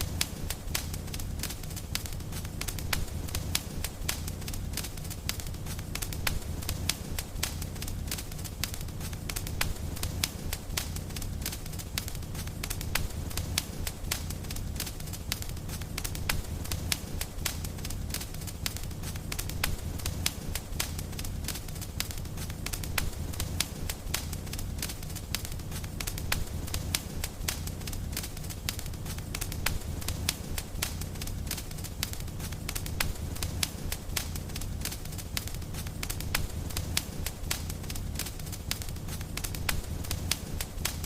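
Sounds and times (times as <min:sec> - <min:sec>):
low rumble of flames: 0:00.0 - 0:41.0
sharp pops of burning wood: 0:00.0 - 0:41.0
wood fire crackling: 0:00.0 - 0:41.0.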